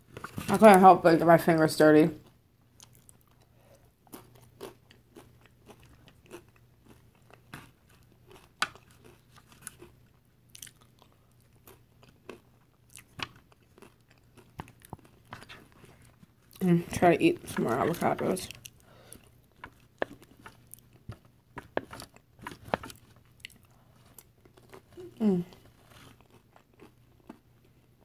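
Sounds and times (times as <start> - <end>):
chewing crunchy chips: 2.2 - 28.0.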